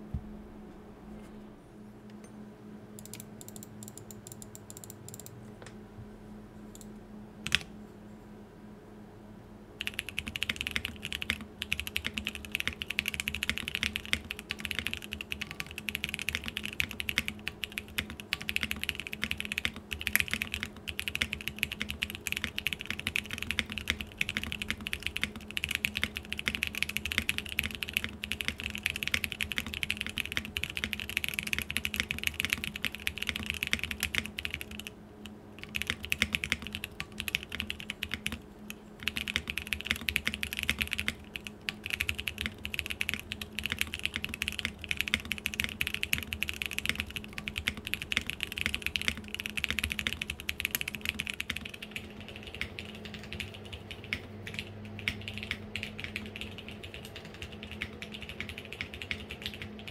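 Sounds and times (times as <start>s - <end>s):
mechanical keyboard typing: 3.0s - 5.3s, 7.5s - 7.7s, 9.8s - 59.9s.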